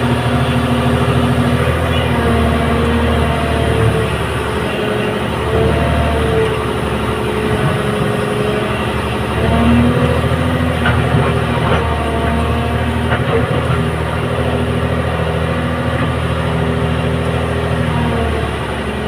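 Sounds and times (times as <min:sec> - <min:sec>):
excavator diesel engine running: 0:00.0 - 0:19.0
hydraulic whine: 0:00.0 - 0:19.0.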